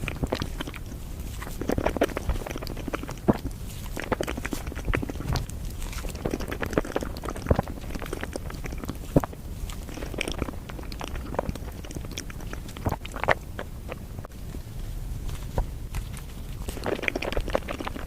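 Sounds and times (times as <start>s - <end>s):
close-miked chewing and biting: 0.0s - 14.3s, 15.3s - 18.0s.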